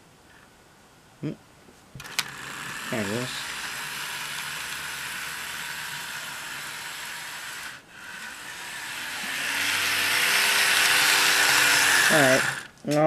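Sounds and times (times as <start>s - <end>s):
model train motor whirring: 2.0s - 12.8s.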